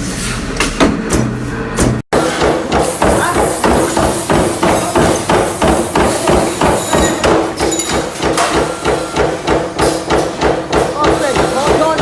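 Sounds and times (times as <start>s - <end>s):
hammer striking metal: 0.6s - 12.0s.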